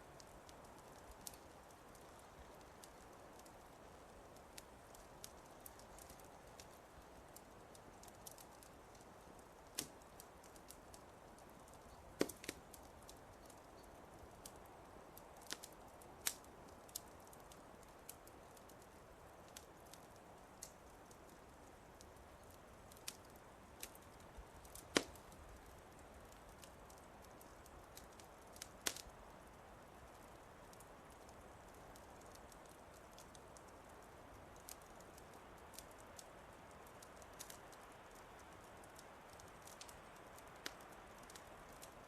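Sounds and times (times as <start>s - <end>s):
soft fire hiss: 0.0s - 42.0s
wood fire crackling: 0.0s - 42.0s.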